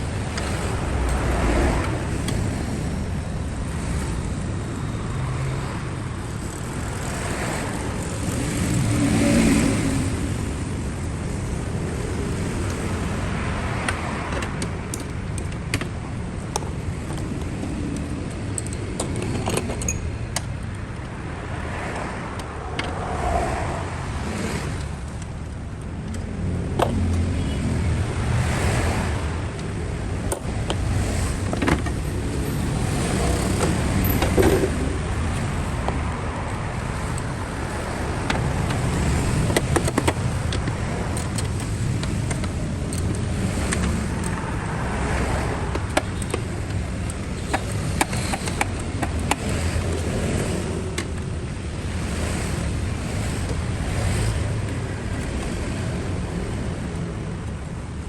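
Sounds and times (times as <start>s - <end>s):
car engine low rumble: 0.0s - 58.0s.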